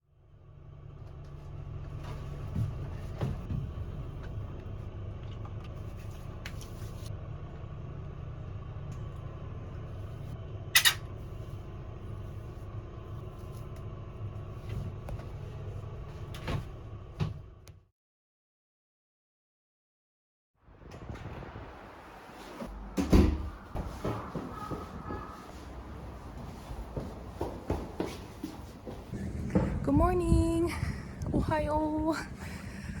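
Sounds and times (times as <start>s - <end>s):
vehicle rumble: 0.1s - 17.7s, 20.6s - 33.0s.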